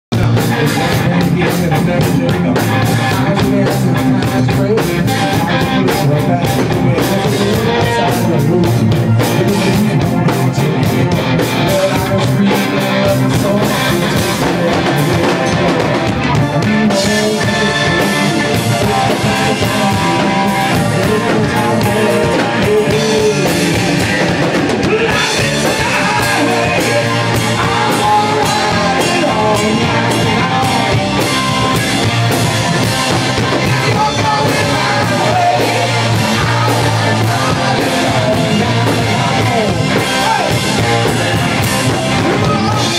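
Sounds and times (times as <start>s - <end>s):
live rock band playing: 0.1s - 42.9s
man singing lead vocals: 0.1s - 42.9s.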